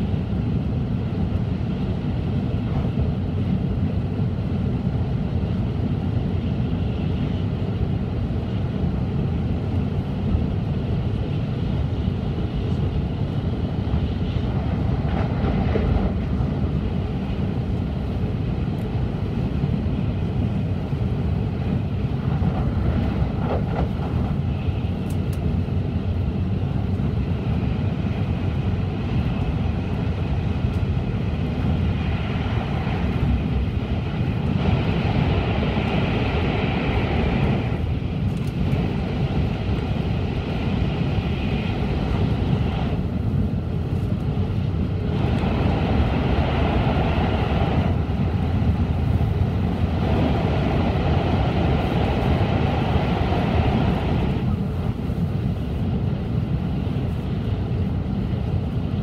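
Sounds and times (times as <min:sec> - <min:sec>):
train cabin deep rumble: 0:00.0 - 0:59.0.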